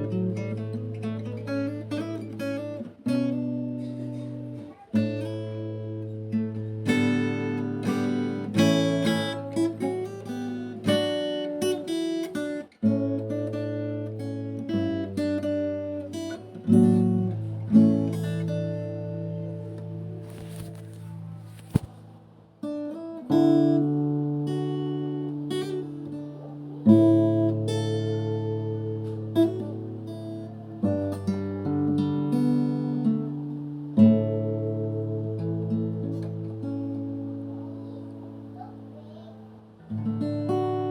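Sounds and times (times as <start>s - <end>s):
acoustic guitar music: 0.0s - 40.9s.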